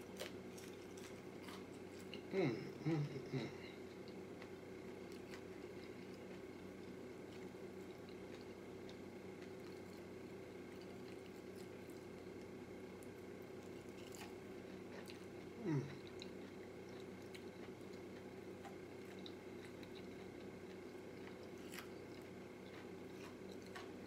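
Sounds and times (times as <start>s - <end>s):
man chewing: 0.0s - 24.0s
steady low hum: 0.0s - 24.0s.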